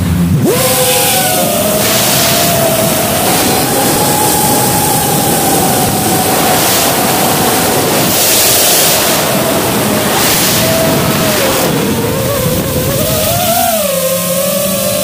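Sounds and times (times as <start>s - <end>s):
drone motor whine: 0.0s - 15.0s
rushing wind: 0.0s - 15.0s.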